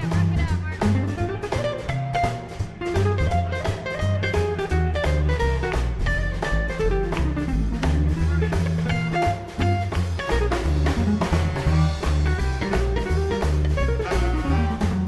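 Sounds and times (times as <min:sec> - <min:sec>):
drums keeping a steady beat: 0:00.0 - 0:15.0
guitar: 0:00.0 - 0:15.0
upright bass: 0:00.0 - 0:15.0.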